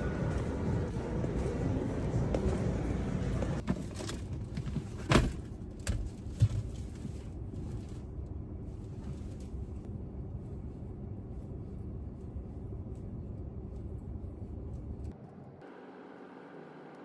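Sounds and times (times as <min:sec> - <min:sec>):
low rumble inside car cabin: 0:00.0 - 0:15.7.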